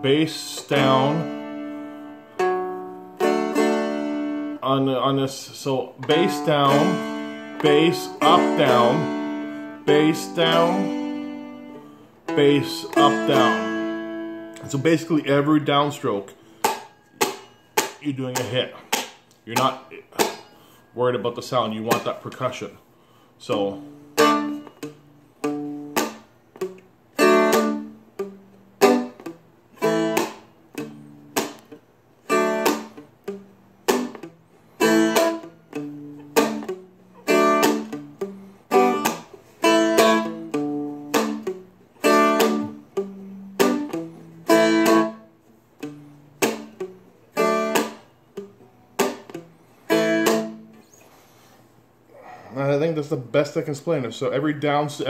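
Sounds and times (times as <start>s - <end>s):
palm-muted guitar strumming: 0.0s - 52.1s.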